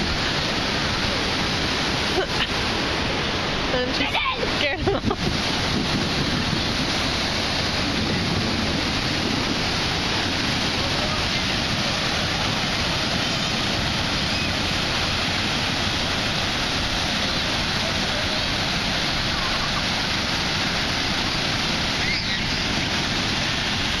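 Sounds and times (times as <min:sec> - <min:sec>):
ocean surf breaking: 0:00.0 - 0:24.0
wind rumble on microphone: 0:00.0 - 0:24.0.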